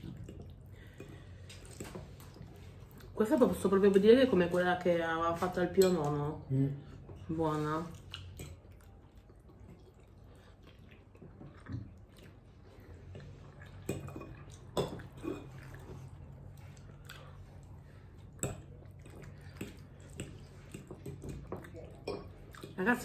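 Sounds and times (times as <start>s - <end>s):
chewing pasta: 0.0s - 4.1s, 7.9s - 23.0s.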